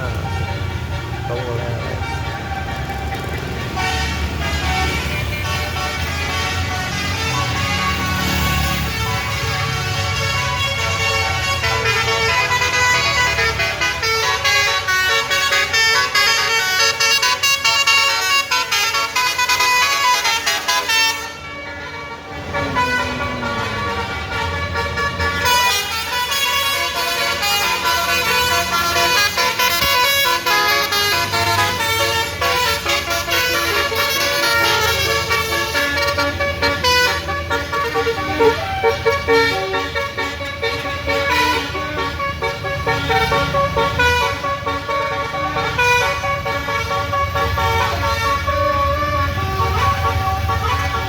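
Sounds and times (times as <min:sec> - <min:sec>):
low engine rumble: 0:00.0 - 0:51.0
musical air horns tooting: 0:00.0 - 0:51.0.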